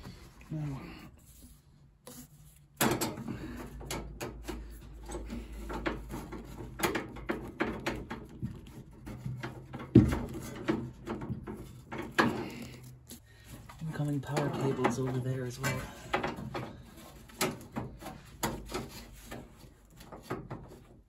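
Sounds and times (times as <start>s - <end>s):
hands rubbing and knocking parts: 0.0s - 21.0s.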